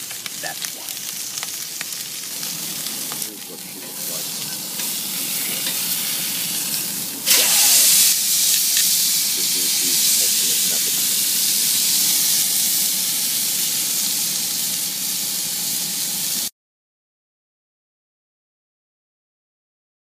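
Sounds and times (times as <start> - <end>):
steak sizzling in a skillet: 0.0 - 16.5.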